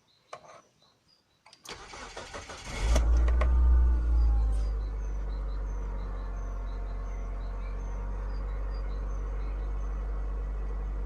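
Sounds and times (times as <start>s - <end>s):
birds chirping faintly: 0.0s - 1.7s, 3.8s - 11.0s
car engine starting and idling: 1.6s - 11.0s.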